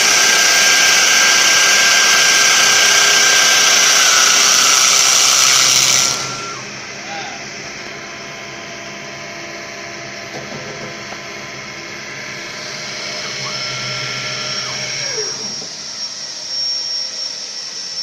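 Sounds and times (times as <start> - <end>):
lathe motors whining: 0.0 - 18.0.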